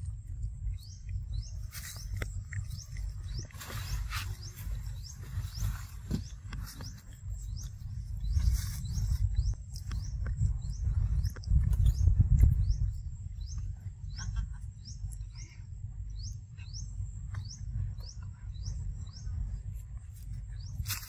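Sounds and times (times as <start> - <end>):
bird chirping: 0.0 - 21.0
low rumble: 0.0 - 21.0.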